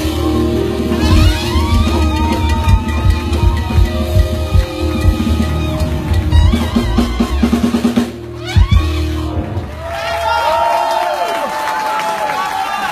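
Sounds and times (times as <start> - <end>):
drum kit playing: 0.0 - 10.5
band music: 0.0 - 11.2.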